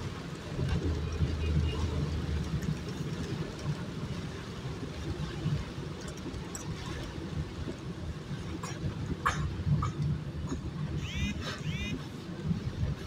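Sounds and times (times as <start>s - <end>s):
car driving rumble: 0.0s - 13.0s
rain: 0.0s - 13.0s.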